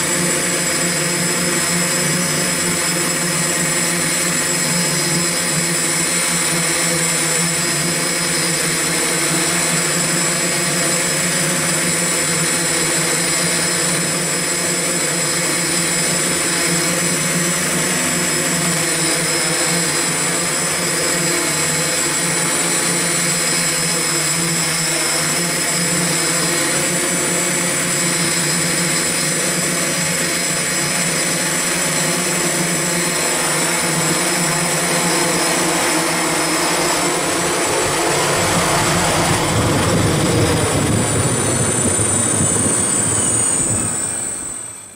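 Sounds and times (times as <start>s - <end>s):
drone motors and propellers whirring: 0.0s - 44.9s.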